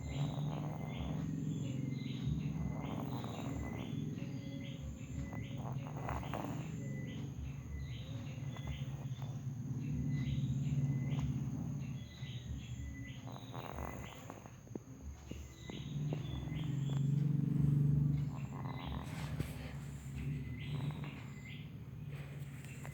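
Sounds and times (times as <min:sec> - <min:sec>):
rhythmic high chirping: 0:00.0 - 0:22.9.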